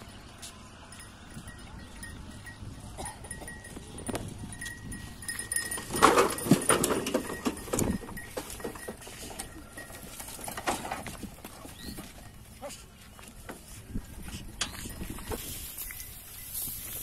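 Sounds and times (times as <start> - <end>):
bullock hooves: 0.0 - 17.0
cart frame and wheels rattling: 0.0 - 17.0.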